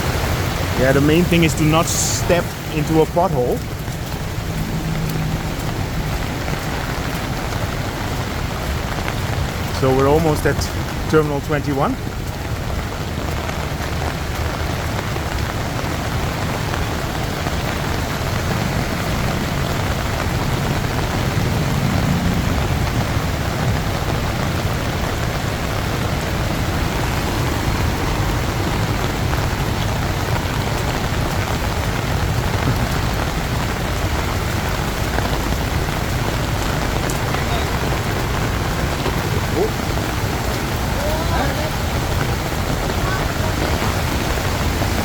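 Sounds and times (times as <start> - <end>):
heavy rain on street: 0.0 - 45.0.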